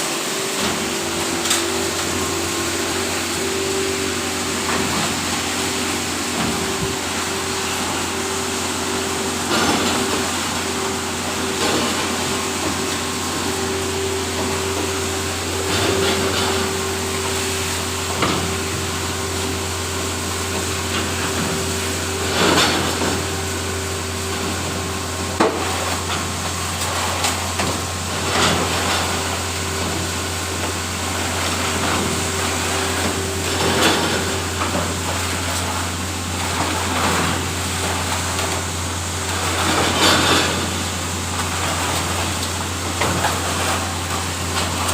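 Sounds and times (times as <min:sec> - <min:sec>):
washing machine humming: 0:00.0 - 0:44.9.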